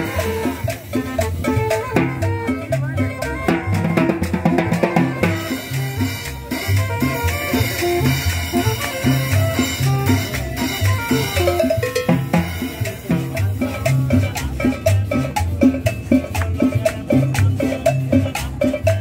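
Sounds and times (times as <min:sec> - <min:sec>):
bass line: 0:00.0 - 0:19.0
drums and percussion: 0:00.0 - 0:19.0.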